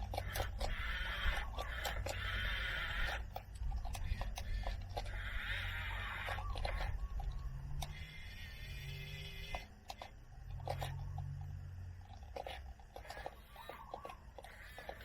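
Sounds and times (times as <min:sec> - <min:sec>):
light clicks and scrapes: 0:00.0 - 0:08.4, 0:09.2 - 0:15.0
small electric motors whirring: 0:00.0 - 0:15.0.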